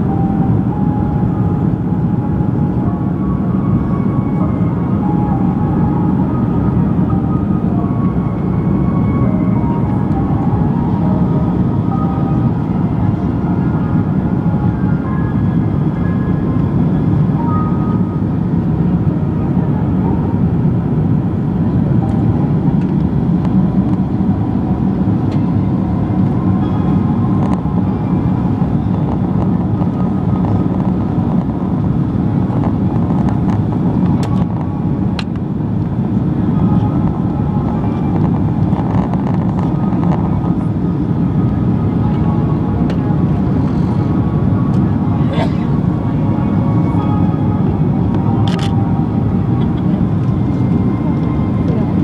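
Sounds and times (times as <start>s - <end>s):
aircraft cabin engine rumble: 0.0s - 52.0s.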